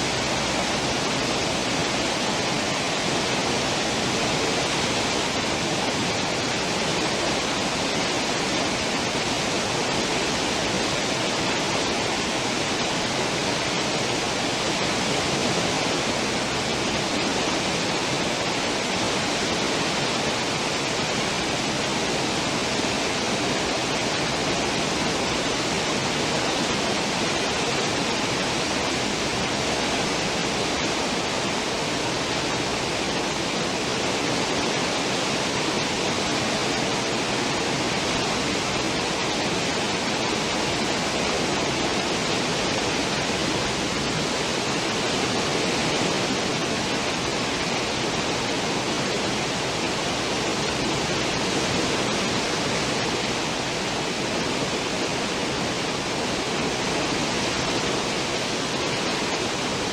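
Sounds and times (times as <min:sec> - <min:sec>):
ship wake rushing water: 0:00.0 - 0:59.9.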